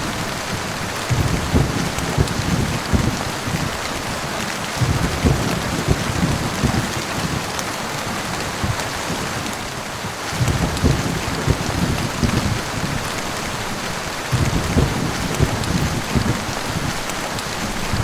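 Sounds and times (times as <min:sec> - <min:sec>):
heavy rain: 0:00.0 - 0:18.0
thunder rumbling: 0:00.0 - 0:18.0.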